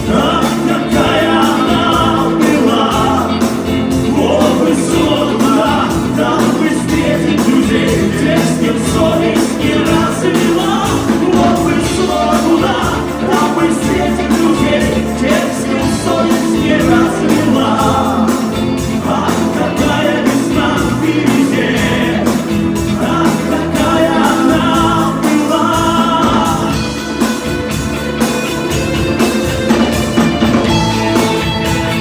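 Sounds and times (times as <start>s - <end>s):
live rock band playing: 0.0s - 32.0s
melodic lead guitar line: 0.0s - 32.0s.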